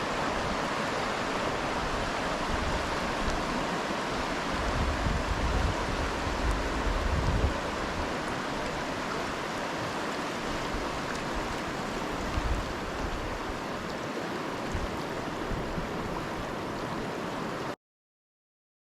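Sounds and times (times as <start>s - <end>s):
rushing river water: 0.0s - 17.8s.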